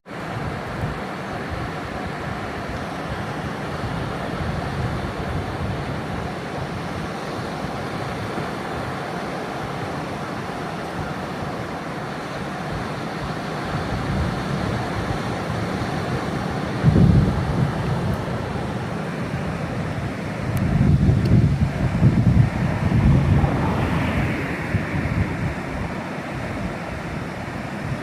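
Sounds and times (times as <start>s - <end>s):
sea surf washing in: 0.0s - 28.0s.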